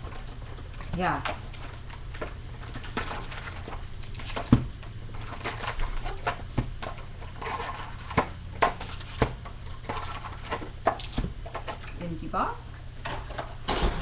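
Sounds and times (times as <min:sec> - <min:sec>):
foil wrappers crinkling: 0:00.0 - 0:12.0.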